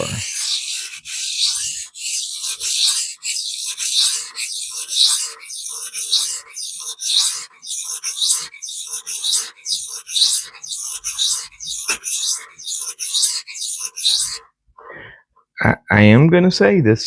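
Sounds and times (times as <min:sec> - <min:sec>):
knife grinding on sharpening stone: 0:00.0 - 0:14.5.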